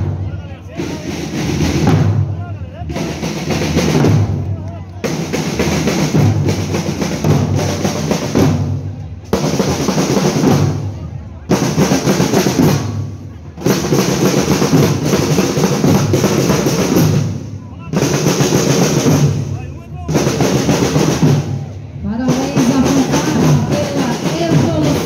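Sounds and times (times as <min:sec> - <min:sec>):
marching drum line cadence: 0:00.0 - 0:25.0.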